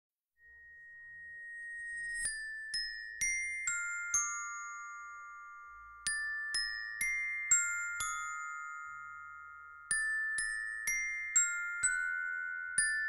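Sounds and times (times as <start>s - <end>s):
bell-like mallet instrument notes: 0.4s - 13.0s.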